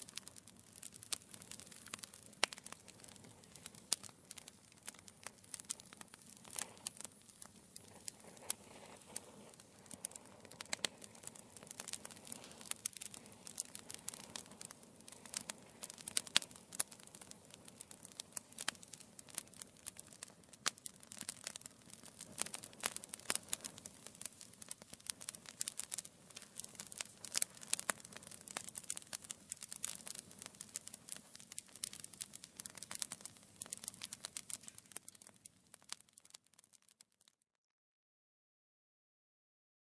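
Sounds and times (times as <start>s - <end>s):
wood fire crackling: 0.0s - 37.4s.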